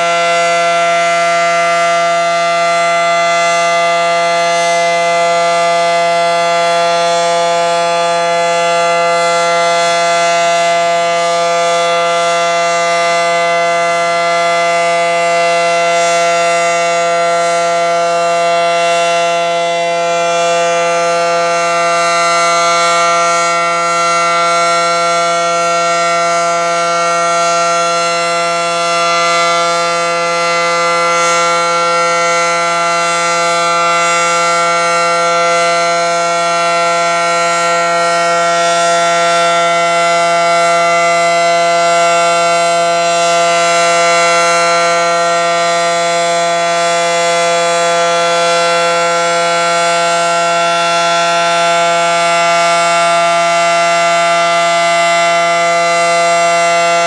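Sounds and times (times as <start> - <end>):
outdoor warning siren: 0.0 - 57.0.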